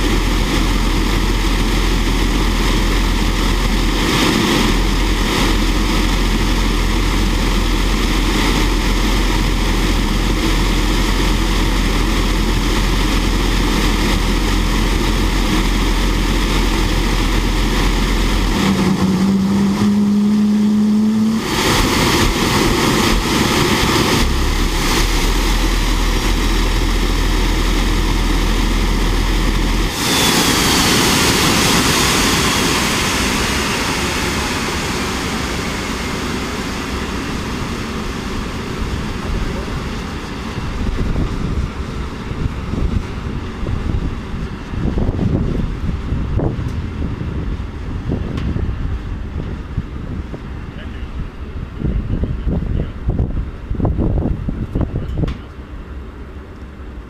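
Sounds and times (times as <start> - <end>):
low hum rising in pitch: 0.0 - 50.5
turbojet engine roaring: 0.0 - 57.0.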